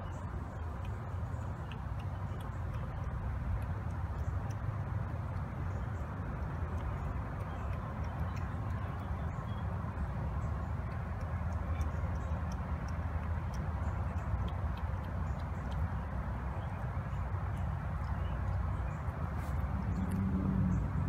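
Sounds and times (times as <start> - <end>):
cats chewing and lapping: 0.0 - 21.0.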